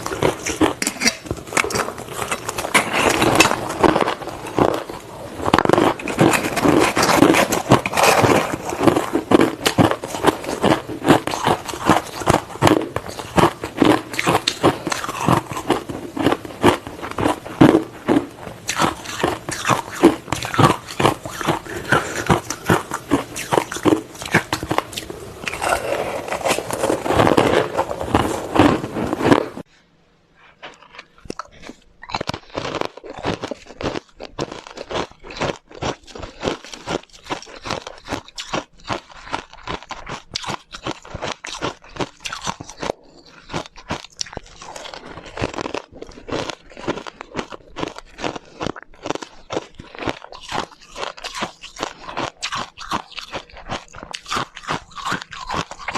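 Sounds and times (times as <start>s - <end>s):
chewing ice crunches: 0.0s - 29.6s, 30.7s - 55.9s.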